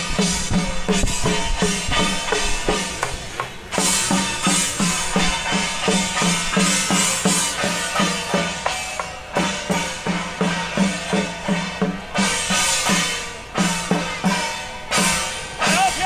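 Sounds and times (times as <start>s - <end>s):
music with fast drum beat: 0.0s - 16.0s.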